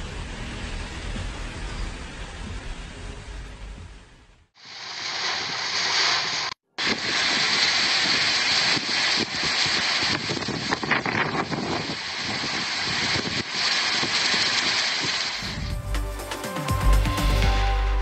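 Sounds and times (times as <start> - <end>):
rain: 0.0 - 10.2, 11.2 - 15.7
gusty wind: 0.0 - 15.9.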